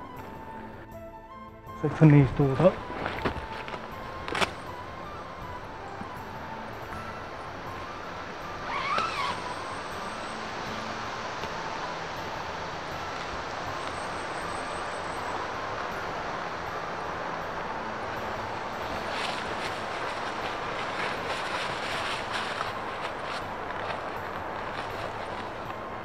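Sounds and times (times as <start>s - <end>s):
rushing outdoor background noise: 0.0s - 26.0s.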